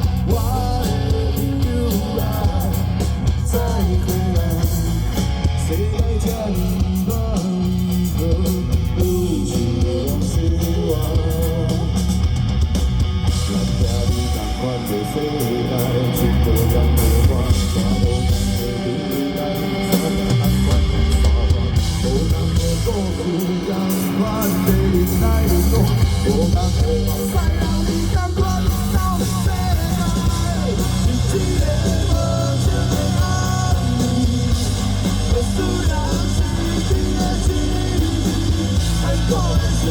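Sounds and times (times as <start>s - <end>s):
driving drum beat: 0.0s - 39.9s
electric guitar: 0.0s - 39.9s
rock band playing live: 0.0s - 39.9s.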